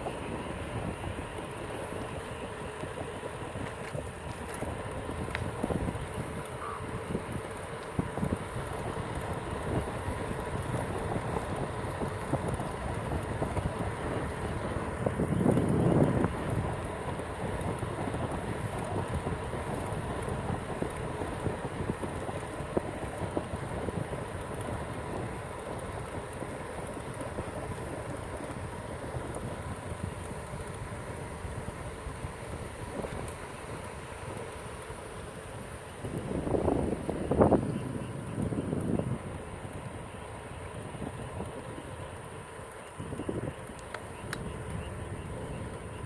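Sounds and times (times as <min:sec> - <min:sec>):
wind rumbling on microphone: 0:00.0 - 0:46.0.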